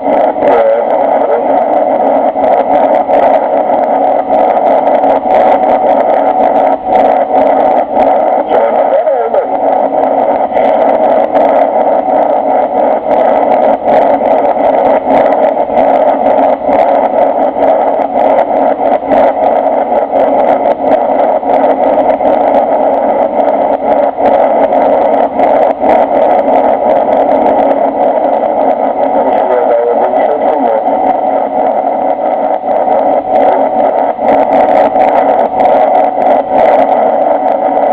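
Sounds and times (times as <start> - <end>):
aircraft cabin engine drone: 0.0 - 37.9.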